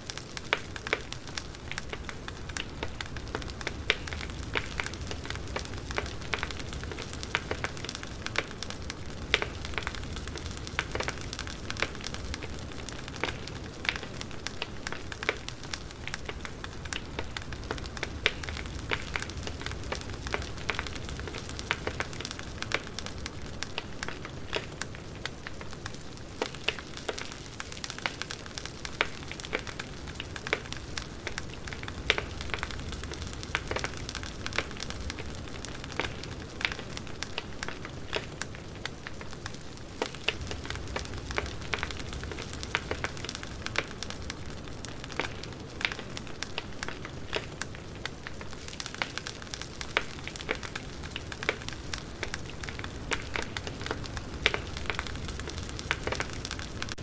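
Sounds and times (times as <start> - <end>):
burning wood crackling and popping: 0.0 - 57.0
campfire hissing: 0.0 - 57.0.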